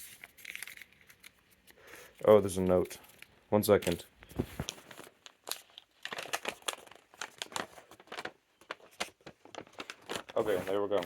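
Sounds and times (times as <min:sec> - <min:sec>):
paper rustling and crinkling: 0:00.0 - 0:01.6, 0:03.0 - 0:11.0.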